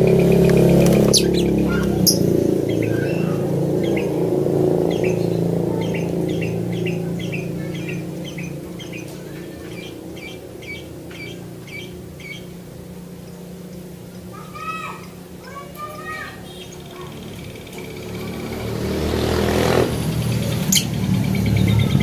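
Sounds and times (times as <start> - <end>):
bird chirping: 0.0 - 18.5, 20.2 - 22.0.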